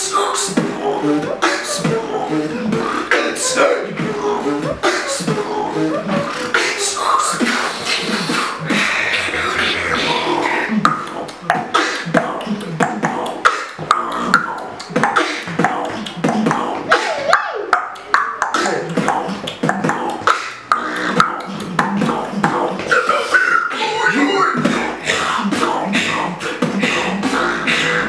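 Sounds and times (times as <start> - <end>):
beatboxing: 0.0 - 28.0.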